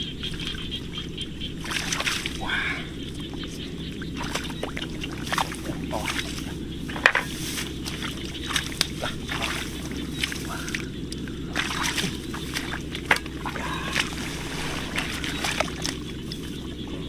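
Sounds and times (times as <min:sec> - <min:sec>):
low rumble: 0:00.0 - 0:17.0
water sloshing and splashing: 0:00.0 - 0:17.0.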